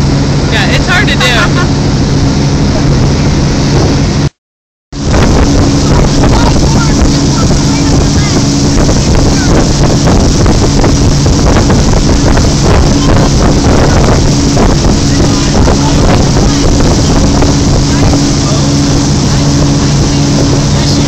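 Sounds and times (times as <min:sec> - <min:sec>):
wind buffeting microphone: 0:00.0 - 0:04.3, 0:05.0 - 0:21.0
churning wake rushing: 0:00.0 - 0:04.4, 0:05.0 - 0:21.0
motorboat engine drone: 0:00.0 - 0:21.0.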